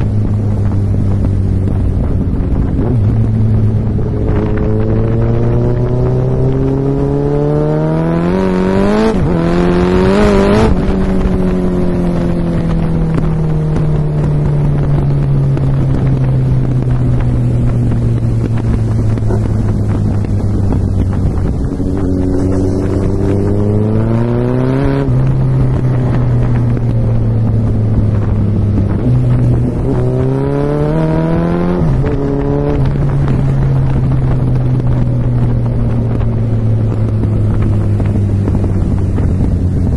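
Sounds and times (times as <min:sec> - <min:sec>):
motorcycle engine accelerating: 0:00.0 - 0:39.9
wind on microphone: 0:00.0 - 0:39.9.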